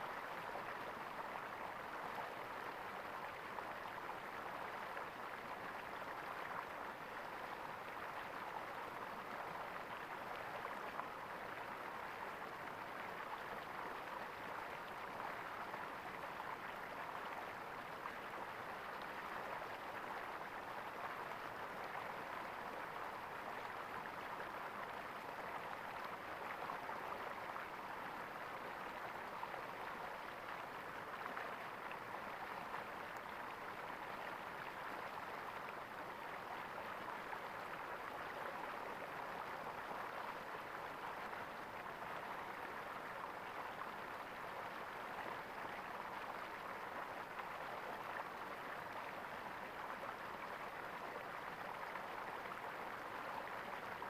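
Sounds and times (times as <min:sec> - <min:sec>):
flowing water gurgling: 0:00.0 - 0:54.0.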